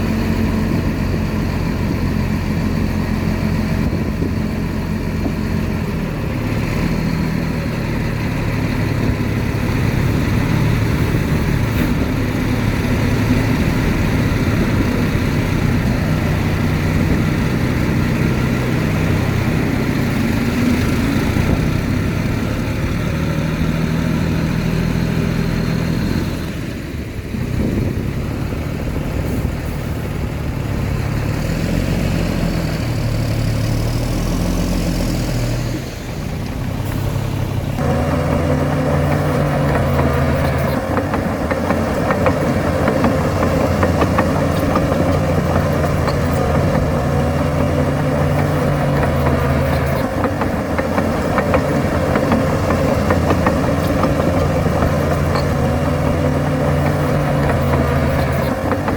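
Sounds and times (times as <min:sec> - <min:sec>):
heavy diesel machinery running: 0:00.0 - 0:58.9.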